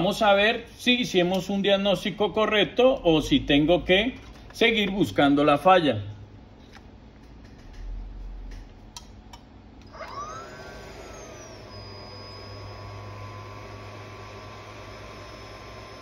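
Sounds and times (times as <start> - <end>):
hot-air rework station whine: 0.0 - 16.0.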